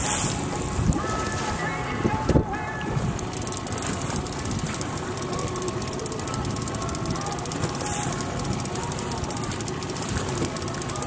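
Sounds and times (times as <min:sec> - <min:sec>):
fishing reel ticking: 0:00.0 - 0:01.0, 0:03.2 - 0:11.0
water: 0:00.0 - 0:11.0
wind: 0:00.0 - 0:11.0.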